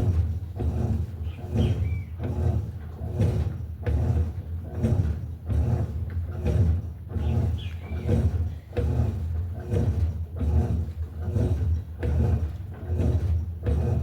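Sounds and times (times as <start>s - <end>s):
washing machine agitating: 0.0s - 14.0s
water and load churning: 0.0s - 14.0s.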